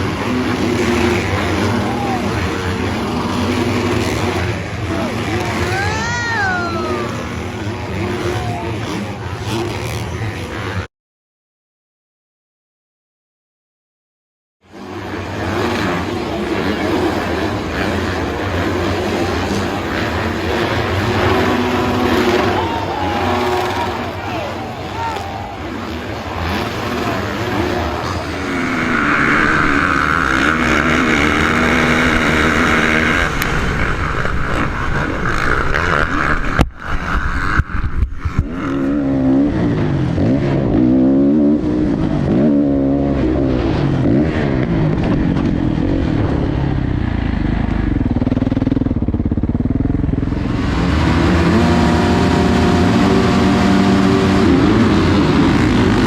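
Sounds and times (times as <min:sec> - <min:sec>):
dirt bike engines revving: 0:00.0 - 0:10.9, 0:14.6 - 0:56.0.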